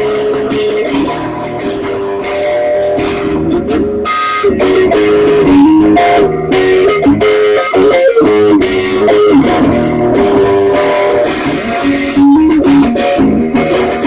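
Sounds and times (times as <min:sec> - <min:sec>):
bass line: 0:00.0 - 0:14.0
electric guitar: 0:00.0 - 0:14.0
steady beat: 0:00.0 - 0:14.0.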